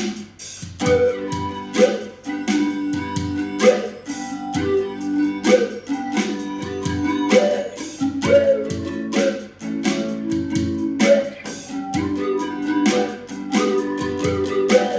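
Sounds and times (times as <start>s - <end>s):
guitar music with beat: 0.0s - 14.9s.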